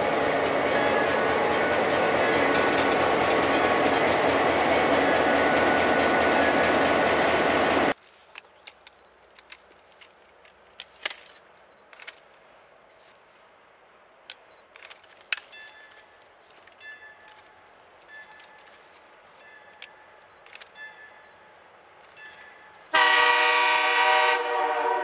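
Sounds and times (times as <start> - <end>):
diesel locomotives running: 0.0 - 10.0, 13.7 - 25.0
train wheels rolling on rail: 0.0 - 13.1, 14.2 - 25.0.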